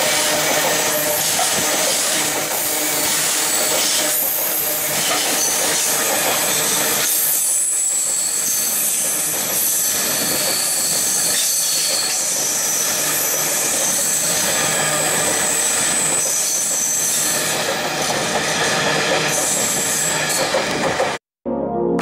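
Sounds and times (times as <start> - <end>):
high-pitched metallic squeal: 0.0 - 20.6
freight train wheels rumbling: 0.0 - 21.2.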